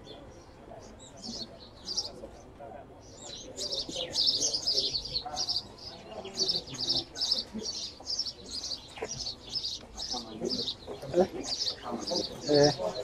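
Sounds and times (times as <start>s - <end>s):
distant voices murmuring: 0.0s - 13.0s
small birds chirping: 0.0s - 13.0s.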